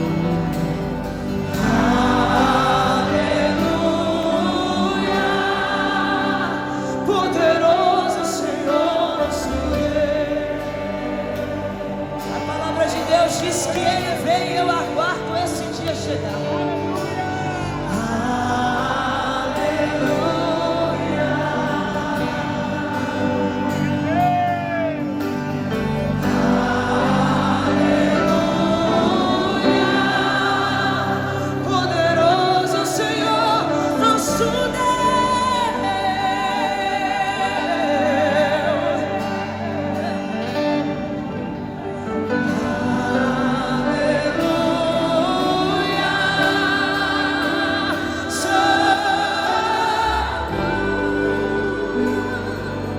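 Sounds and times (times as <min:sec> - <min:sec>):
woman singing with vibrato: 0:00.0 - 0:24.7, 0:25.3 - 0:52.9
backing voices: 0:00.0 - 0:52.9
band accompaniment: 0:00.0 - 0:52.9.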